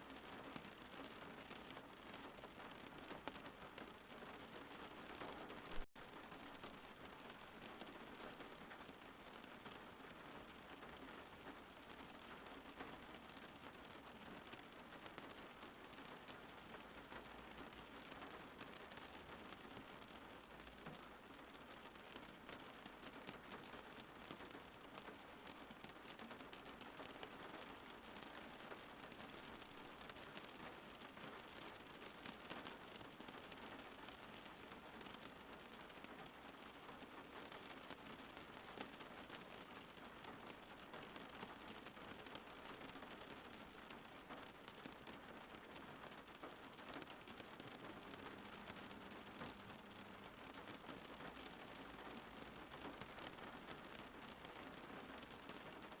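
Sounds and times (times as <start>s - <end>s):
faint steady rain: 0.0s - 56.0s.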